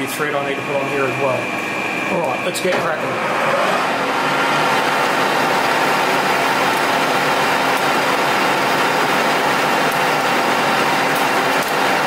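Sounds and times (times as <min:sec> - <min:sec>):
lathe running with turning cut: 0:00.0 - 0:12.0.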